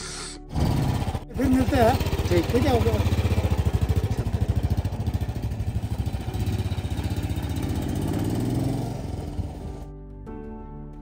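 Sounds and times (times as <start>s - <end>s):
motorcycle engine running: 0.5s - 9.9s.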